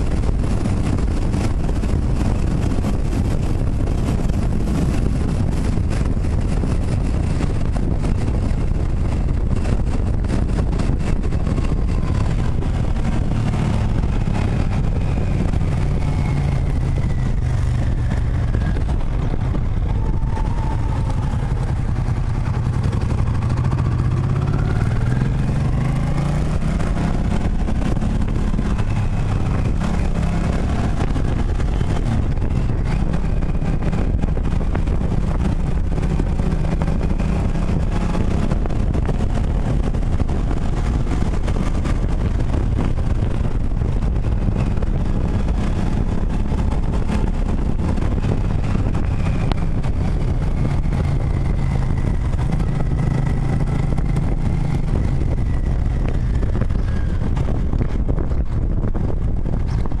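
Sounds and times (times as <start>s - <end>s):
motorcycle engine running: 0.0s - 60.0s
wind noise: 0.0s - 60.0s.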